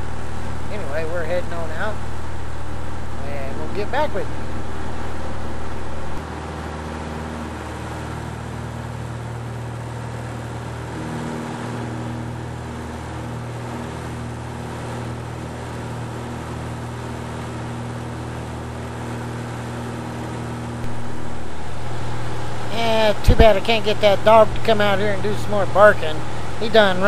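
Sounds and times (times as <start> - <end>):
propeller plane engine droning: 0.0 - 27.0.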